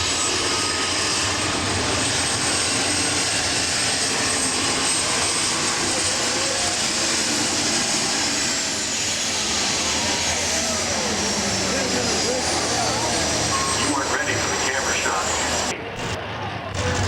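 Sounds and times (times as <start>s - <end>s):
tractor engines droning: 0.0s - 17.0s.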